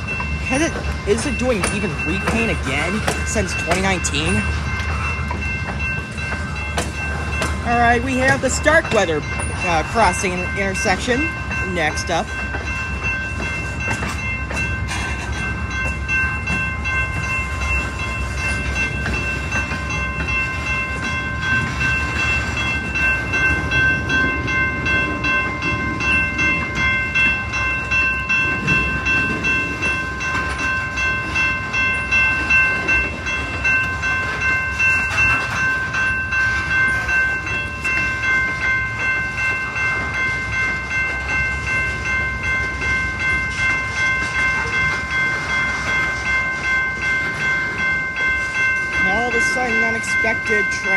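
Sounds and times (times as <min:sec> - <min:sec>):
electronic crossing bell ringing: 0:00.0 - 0:50.9.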